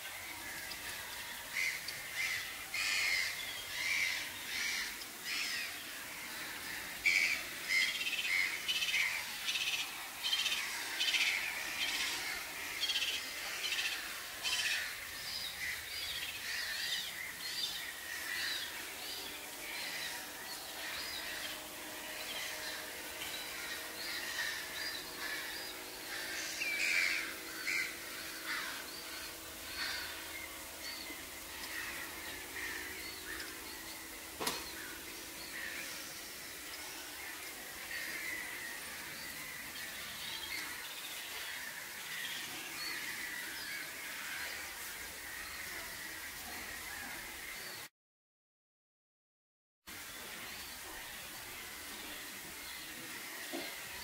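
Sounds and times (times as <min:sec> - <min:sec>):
waterbirds calling: 0:00.0 - 0:47.9.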